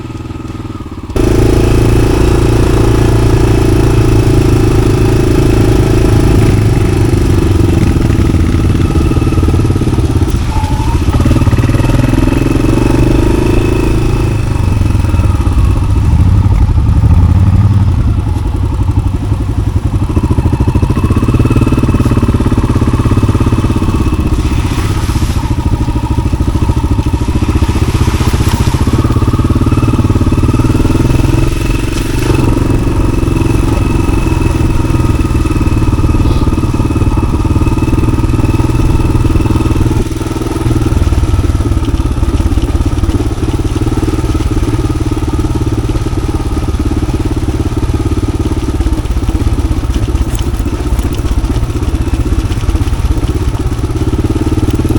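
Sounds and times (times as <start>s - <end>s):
motorcycle engine while riding: 0.0s - 54.9s.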